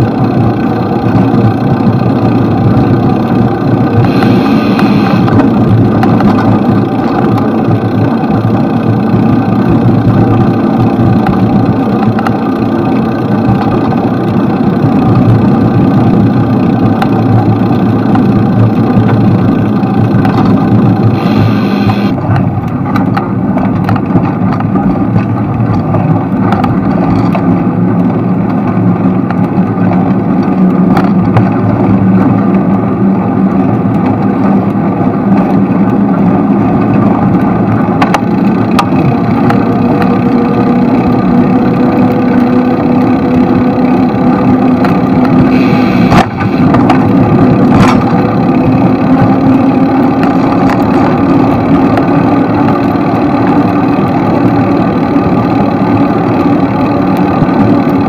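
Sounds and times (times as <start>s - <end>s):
traffic engine hum: 0.0s - 58.0s.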